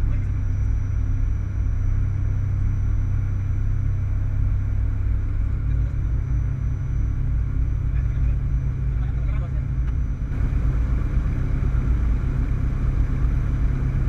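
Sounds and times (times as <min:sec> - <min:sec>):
aircraft engine and propeller droning: 0:00.0 - 0:14.0.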